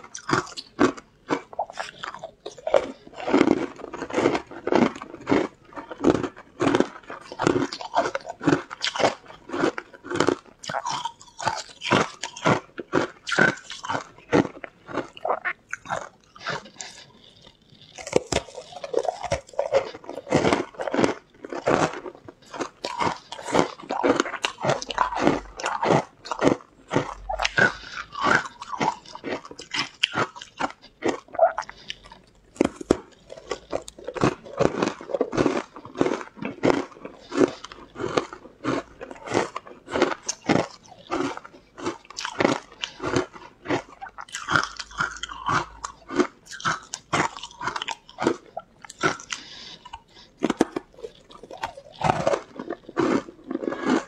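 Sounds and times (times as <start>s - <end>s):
ice being bitten and chewed: 0.0s - 54.0s.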